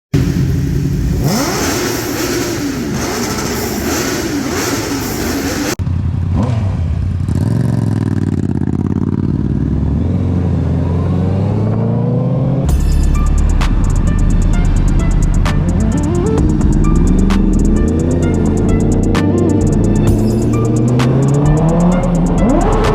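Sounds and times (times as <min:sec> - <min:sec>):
engine accelerating: 0:00.2 - 0:22.9
motorcycle engine revving: 0:00.2 - 0:22.9.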